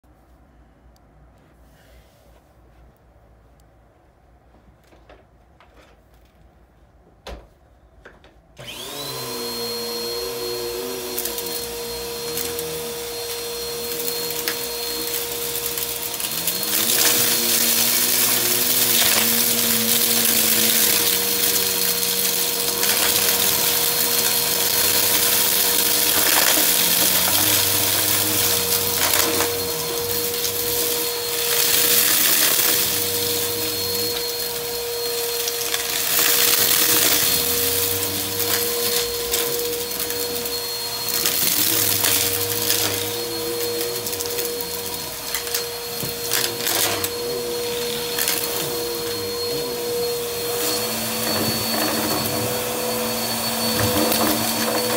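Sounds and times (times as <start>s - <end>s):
vacuum cleaner motor whine: 8.6s - 54.9s
vacuum sucking crunchy debris: 8.6s - 54.9s.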